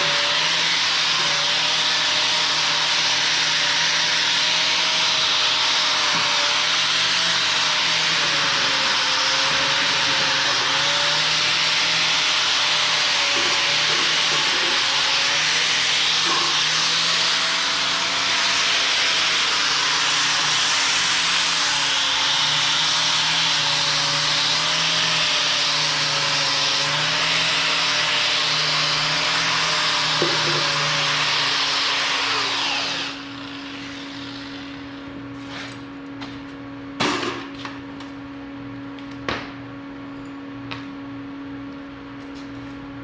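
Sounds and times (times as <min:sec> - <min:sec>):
angle grinder grinding steel: 0:00.0 - 0:35.8.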